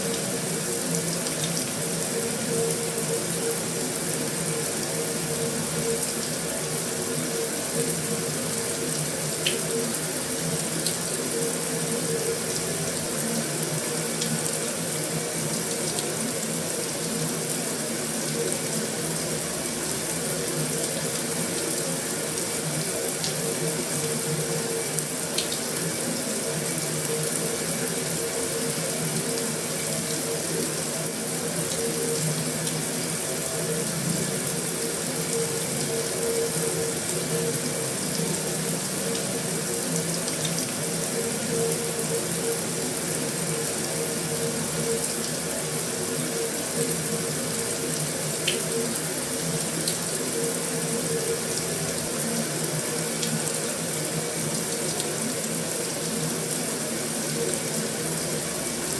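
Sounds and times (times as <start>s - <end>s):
heavy rain on a metal roof: 0.0s - 58.9s.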